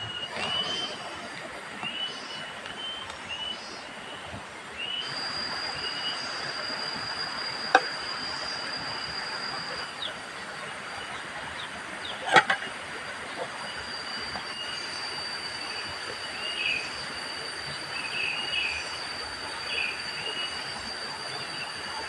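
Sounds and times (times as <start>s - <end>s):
insects chirping and whining: 0.0s - 22.0s.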